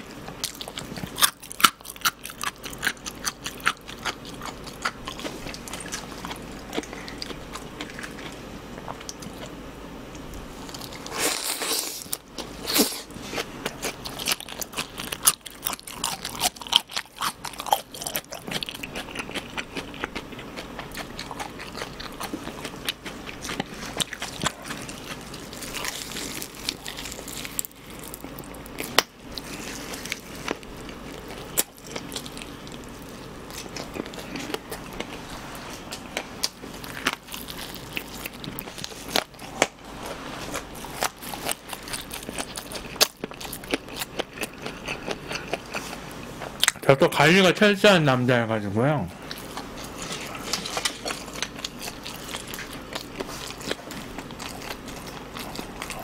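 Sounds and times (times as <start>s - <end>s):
crunchy food being chewed: 0.0s - 47.3s, 49.2s - 56.0s.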